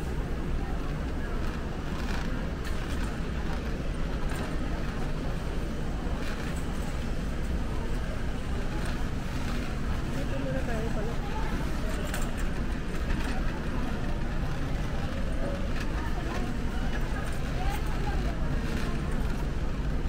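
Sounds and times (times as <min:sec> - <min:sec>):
indistinct shoppers chatter: 0:00.0 - 0:20.0.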